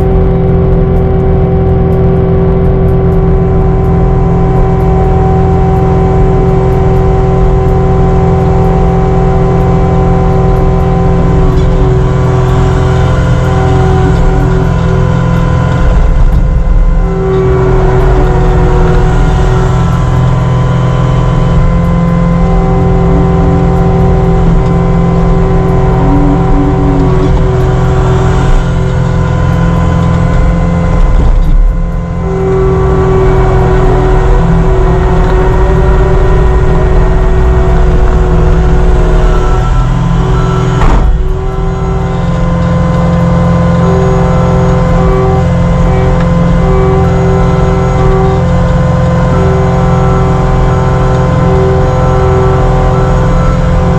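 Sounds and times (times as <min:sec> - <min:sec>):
diesel engine running: 0:00.0 - 0:53.9
machine whine: 0:00.0 - 0:53.9.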